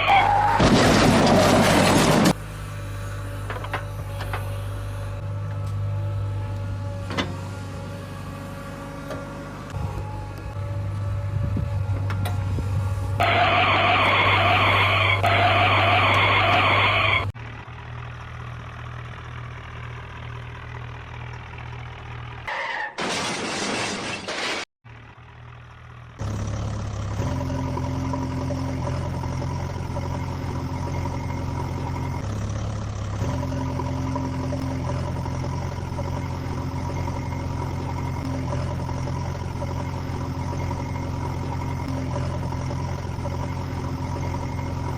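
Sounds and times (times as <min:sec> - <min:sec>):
vehicle engine running: 0:00.0 - 0:22.5, 0:24.8 - 0:44.9.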